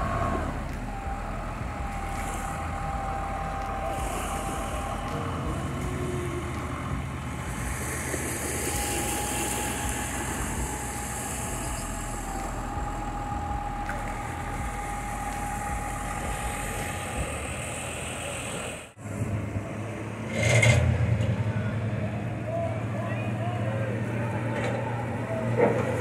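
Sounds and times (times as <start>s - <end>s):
tractor diesel engine running: 0.0s - 26.0s
wind: 0.0s - 26.0s.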